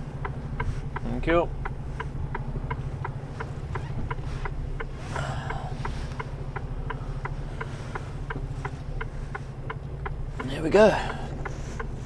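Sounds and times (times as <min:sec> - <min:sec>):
lorry diesel engine running: 0:00.0 - 0:12.0
turn indicator ticking: 0:00.0 - 0:12.0.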